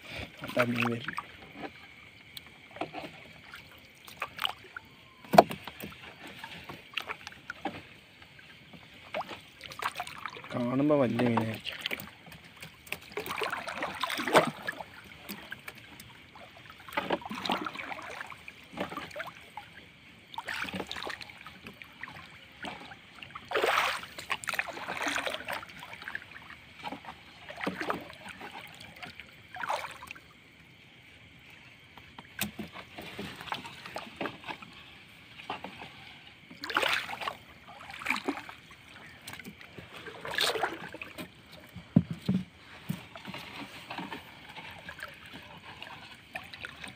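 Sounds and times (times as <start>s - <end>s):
wet fishing net hauled by hand: 0.0s - 30.2s, 32.3s - 46.9s
water splashing and streaming: 0.0s - 46.9s.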